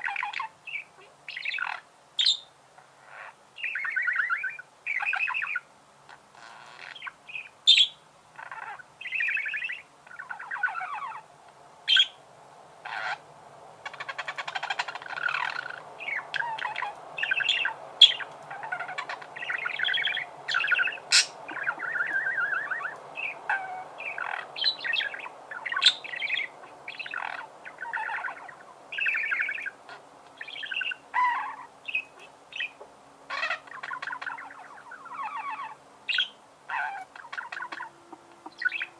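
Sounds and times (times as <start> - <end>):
budgerigars warbling and chirping: 0.0 - 11.3, 11.9 - 12.2, 12.8 - 38.9.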